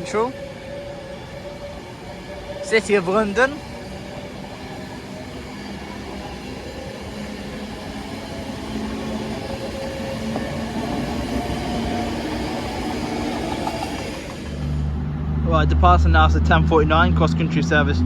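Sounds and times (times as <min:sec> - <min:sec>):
passenger train rumbling: 0:00.0 - 0:18.0.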